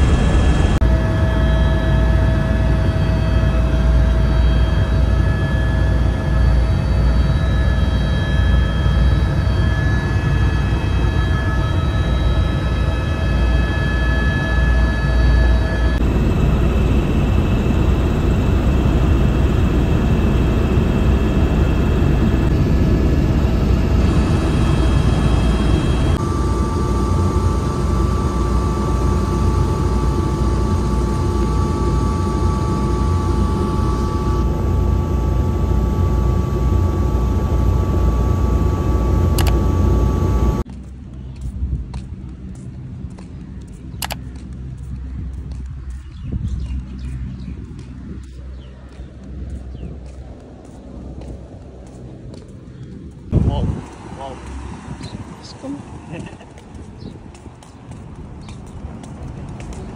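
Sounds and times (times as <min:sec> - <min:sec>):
helicopter engine and rotor drone: 0:00.0 - 0:59.9
high turbine whine: 0:00.0 - 0:59.9.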